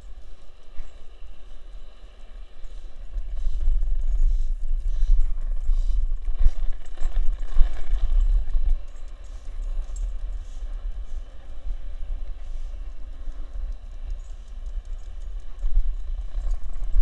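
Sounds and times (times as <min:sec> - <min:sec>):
skateboard wheels rolling: 0:00.0 - 0:17.0.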